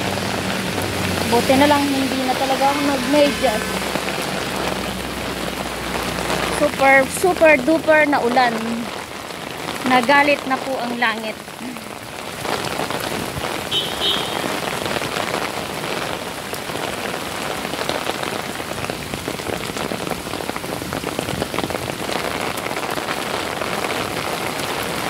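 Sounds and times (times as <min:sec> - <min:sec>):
heavy rain on pavement: 0:00.0 - 0:25.0.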